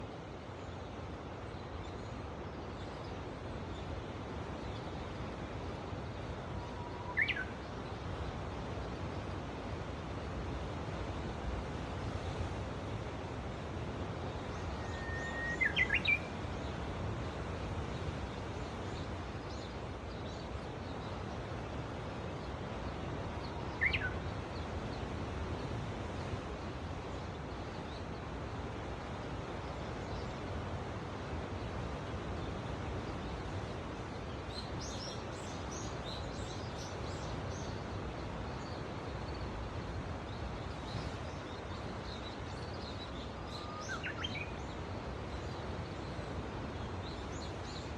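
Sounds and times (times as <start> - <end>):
sea surf: 0.0 - 47.9
wind: 0.0 - 47.9.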